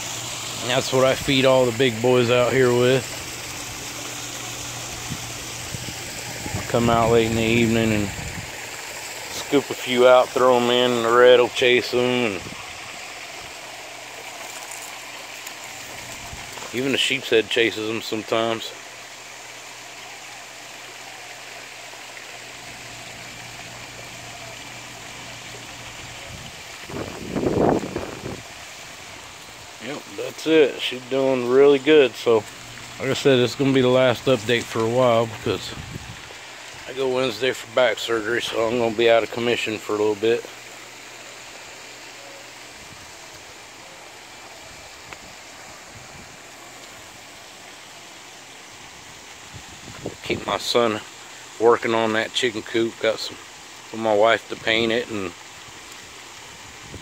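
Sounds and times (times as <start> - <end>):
fountain water splashing: 0.0 - 57.0
rough water rush: 0.0 - 57.0.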